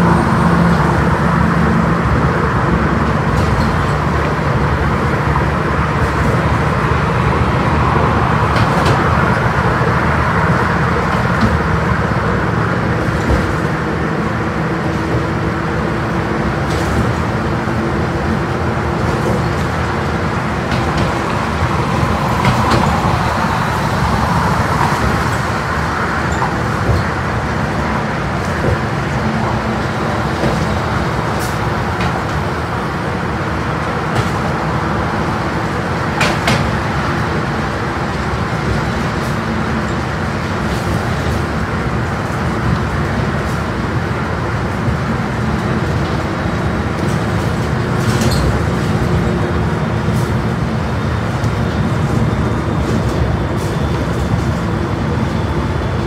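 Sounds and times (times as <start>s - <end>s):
bus engine and road drone: 0.0s - 56.0s.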